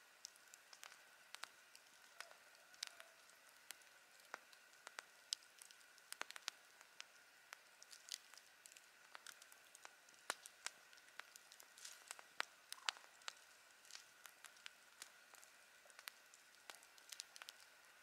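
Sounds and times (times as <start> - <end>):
campfire wood crackling: 0.0 - 18.0
faint fire hiss: 0.0 - 18.0.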